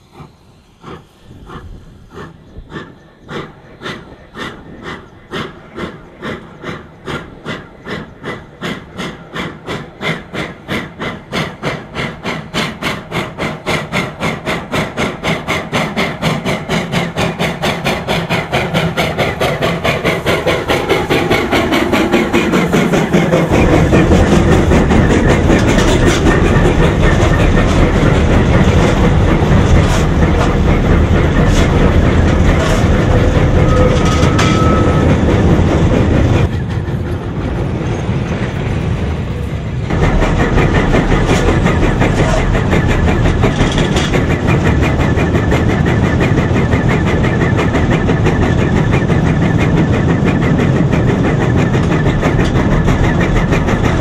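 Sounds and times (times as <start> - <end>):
steam locomotive exhaust chuffing: 0.0 - 54.0
locomotive rumble and rattle: 0.2 - 54.0.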